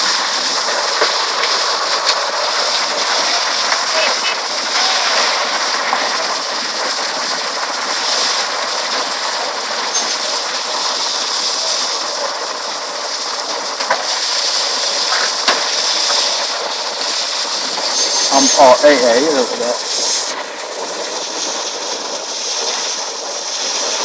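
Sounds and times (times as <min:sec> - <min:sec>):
water gushing with rushing hiss: 0:00.0 - 0:24.0.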